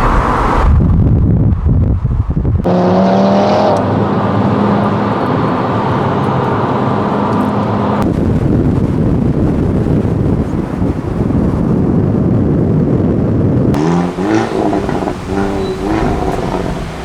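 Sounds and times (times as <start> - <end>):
car engine rumbling and droning: 0.0 - 17.0.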